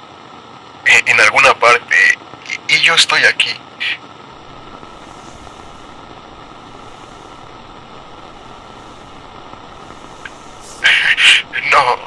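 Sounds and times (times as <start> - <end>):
radio static hiss: 0.9 - 12.0.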